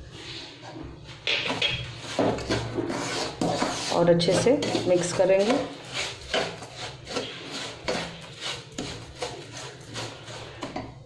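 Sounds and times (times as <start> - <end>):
wooden spatula scraping a pan: 0.0 - 11.0.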